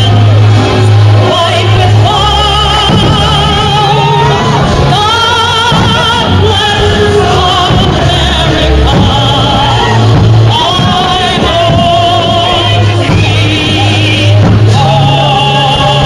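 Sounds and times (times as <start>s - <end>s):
person singing with wide vibrato: 0.0s - 16.0s
sustained bass notes: 0.0s - 16.0s.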